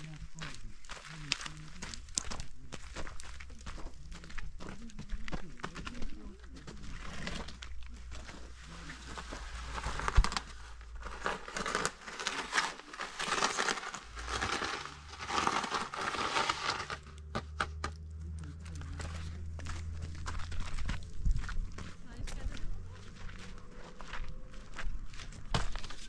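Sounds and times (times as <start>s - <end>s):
low rumble: 0.0s - 26.0s
rustling and crinkling: 0.0s - 26.0s.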